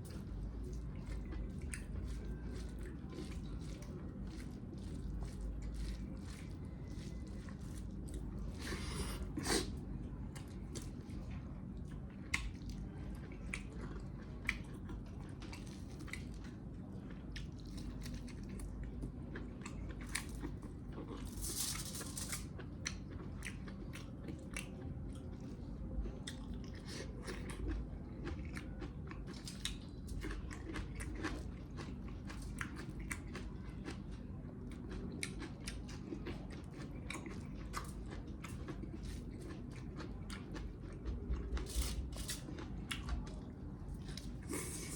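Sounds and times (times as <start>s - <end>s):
chewing and biting meat: 0.0s - 21.4s, 22.4s - 44.9s.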